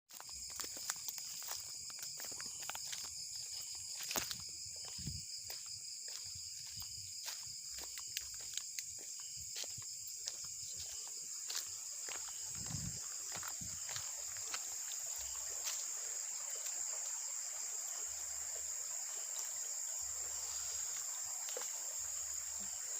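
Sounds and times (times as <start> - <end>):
insects trilling: 0.1 - 22.9.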